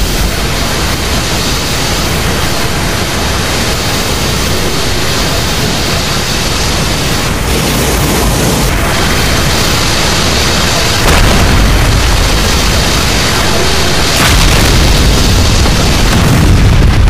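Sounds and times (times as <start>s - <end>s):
energy beams firing: 0.0s - 17.0s.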